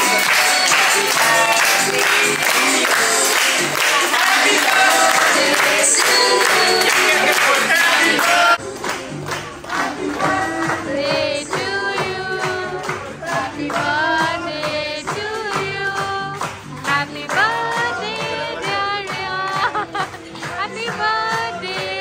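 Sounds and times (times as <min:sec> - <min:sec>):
group singing: 0:00.0 - 0:08.6, 0:09.6 - 0:22.0
hand clapping: 0:00.0 - 0:22.0.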